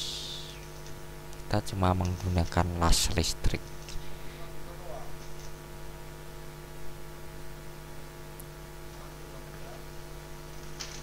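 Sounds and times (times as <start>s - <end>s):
arc welding machine humming: 0.0s - 11.0s.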